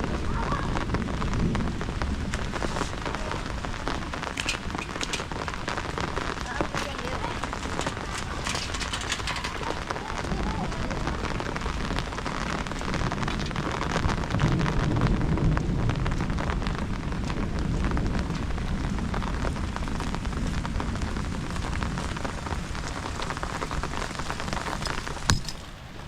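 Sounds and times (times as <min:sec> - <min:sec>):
low rumble of thunder: 0:00.0 - 0:24.7
heavy rain falling: 0:00.0 - 0:26.0.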